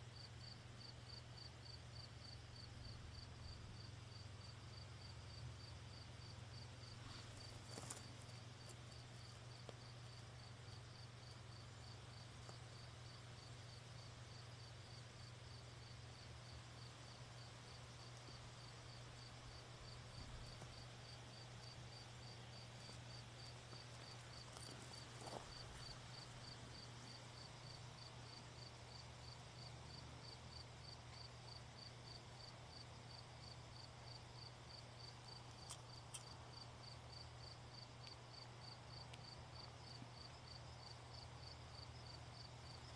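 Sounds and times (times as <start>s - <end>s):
cricket chirping faintly: 0.0s - 42.9s.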